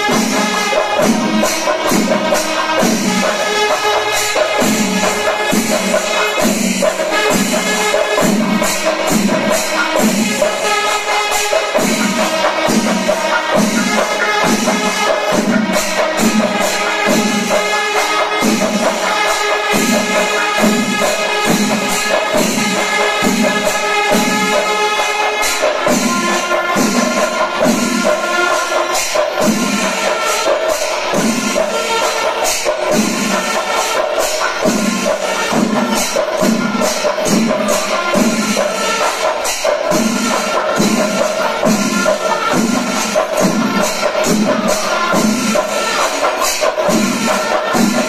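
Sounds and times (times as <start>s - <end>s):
clashing hand cymbals: 0.0s - 48.0s
drums keeping a steady beat: 0.0s - 48.0s.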